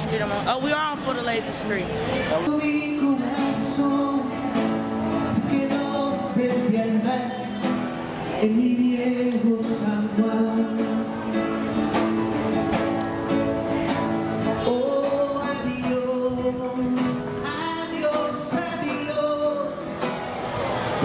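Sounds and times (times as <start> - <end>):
plucked guitar: 0.0 - 21.0.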